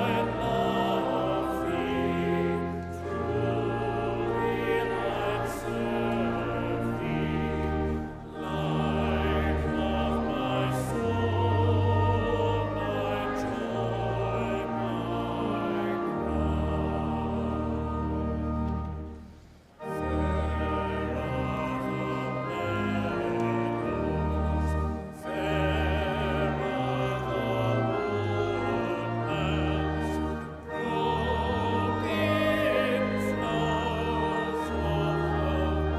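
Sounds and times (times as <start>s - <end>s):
hymn sung with vibrato: 0.0s - 18.4s, 19.9s - 35.9s.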